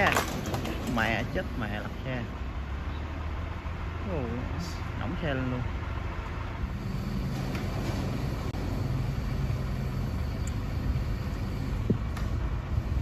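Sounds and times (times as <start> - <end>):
crane engine running: 0.0 - 13.0.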